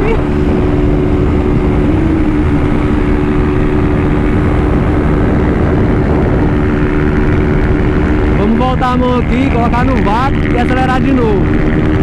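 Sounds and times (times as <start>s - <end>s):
motorcycle engine at high revs: 0.0s - 12.0s
wind rushing over microphone: 0.0s - 12.0s.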